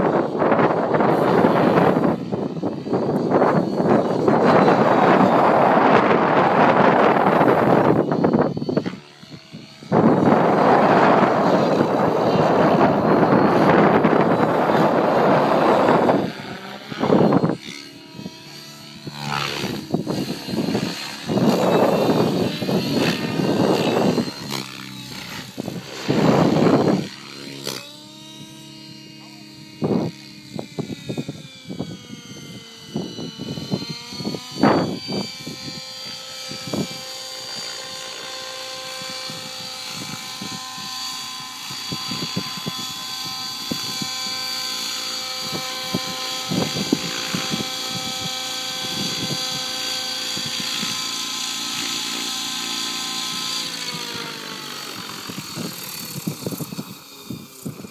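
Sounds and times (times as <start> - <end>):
rc helicopter motor whine: 0.0 - 57.9.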